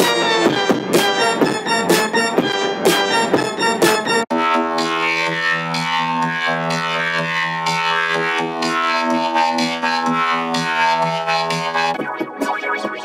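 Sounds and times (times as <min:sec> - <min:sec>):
electronic droning note: 0:01.6 - 0:13.0.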